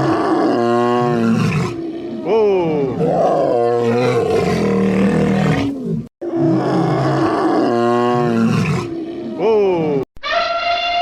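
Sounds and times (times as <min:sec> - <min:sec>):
big cat roaring: 0:00.0 - 0:10.0.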